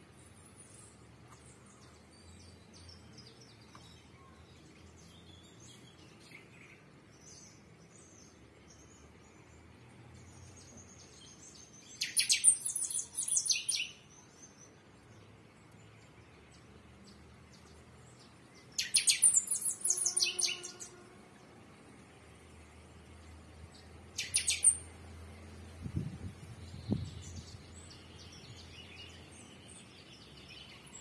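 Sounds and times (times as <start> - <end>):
small birds chirping: 0.0 - 21.0, 21.7 - 31.0.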